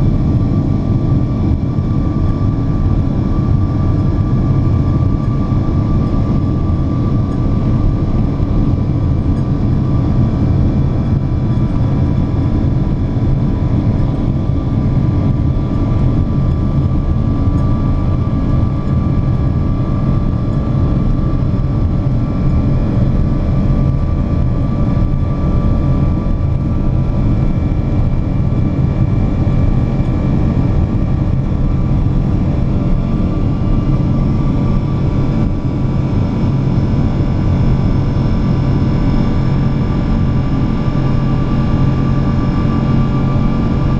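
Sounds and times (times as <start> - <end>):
faint steady whine: 0.0 - 43.9
jet engines rumbling: 0.0 - 43.9.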